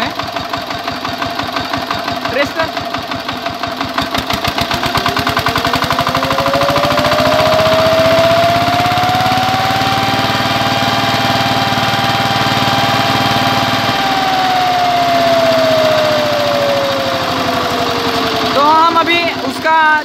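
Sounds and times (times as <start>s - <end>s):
diesel engine whining: 0.0s - 20.0s.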